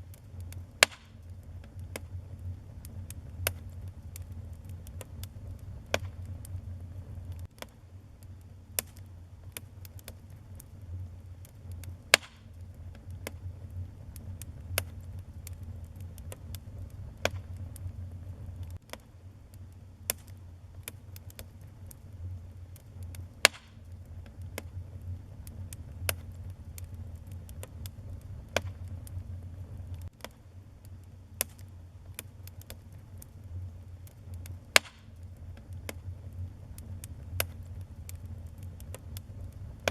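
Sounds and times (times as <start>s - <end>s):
loud fire snaps: 0.0s - 39.9s
low rumble of flames: 0.0s - 39.9s
wood fire crackling and popping: 0.0s - 39.9s.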